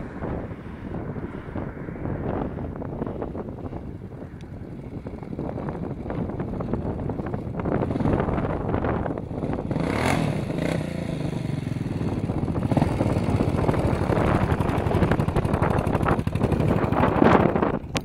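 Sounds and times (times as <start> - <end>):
dirt bike engine running: 2.3 - 18.0.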